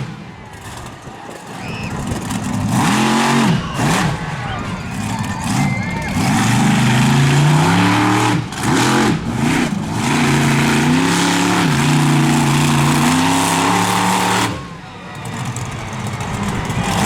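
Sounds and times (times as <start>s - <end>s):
truck engine revving high: 0.0s - 17.0s.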